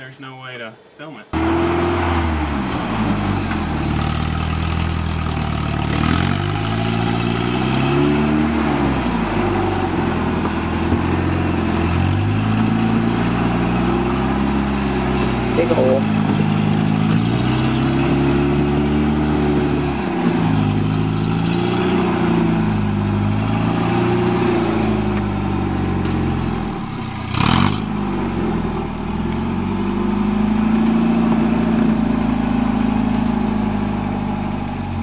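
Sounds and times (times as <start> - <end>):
buggy engine revving: 1.4 - 35.0.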